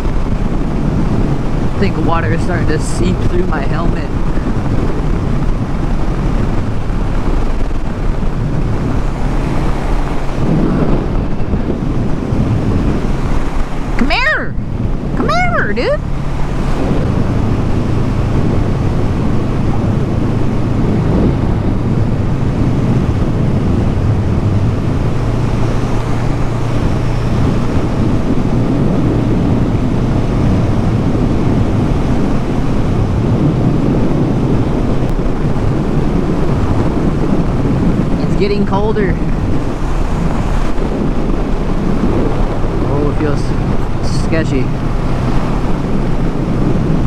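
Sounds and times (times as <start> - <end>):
motorcycle engine cruising: 0.0 - 47.0
wind buffeting microphone: 0.0 - 47.0.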